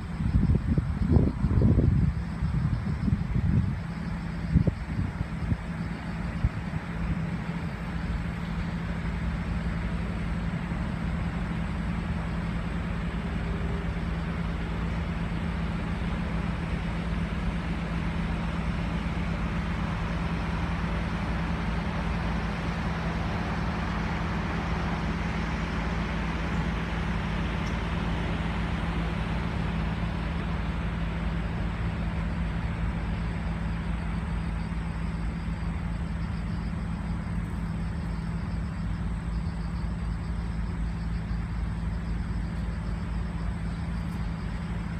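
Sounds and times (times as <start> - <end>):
road noise: 0.0 - 44.9
vehicle engine drone: 0.0 - 44.9.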